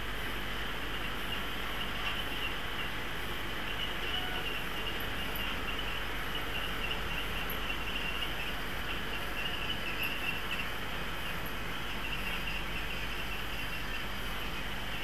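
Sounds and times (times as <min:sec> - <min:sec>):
model trains rolling on tracks: 0:00.0 - 0:15.0
whine of wheels and motors: 0:00.0 - 0:15.0.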